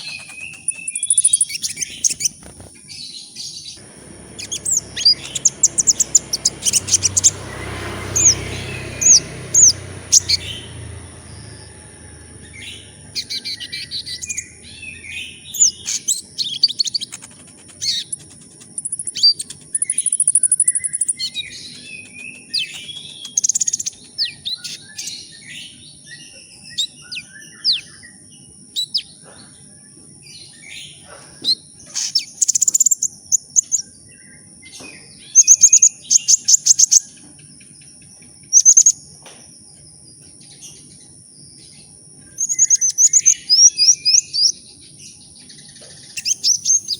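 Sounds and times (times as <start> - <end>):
sunbird chirps and trills: 0.0 - 46.9.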